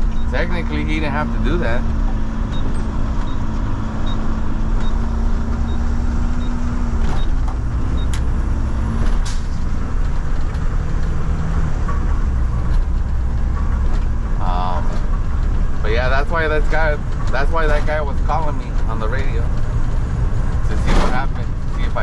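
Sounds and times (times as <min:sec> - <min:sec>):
garbage truck engine rumble: 0:00.0 - 0:22.0.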